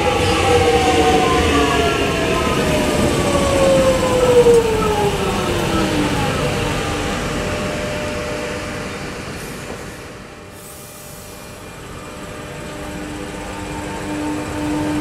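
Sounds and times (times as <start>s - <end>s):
electric train wheel and motor noise: 0.0s - 15.0s
traction motors whining: 0.0s - 15.0s.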